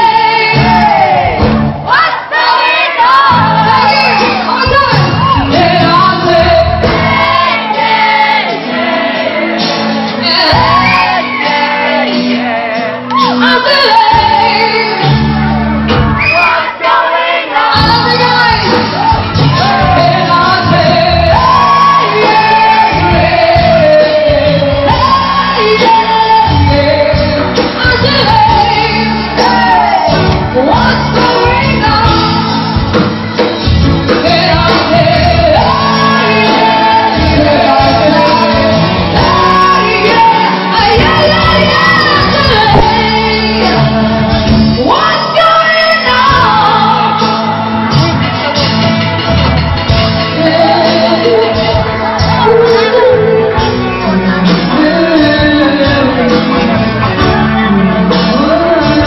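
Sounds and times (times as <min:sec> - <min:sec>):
man and woman singing: 0:00.0 - 0:15.2, 0:16.3 - 0:32.5, 0:34.1 - 0:47.6, 0:50.3 - 0:53.6
live band playing: 0:00.0 - 0:59.0.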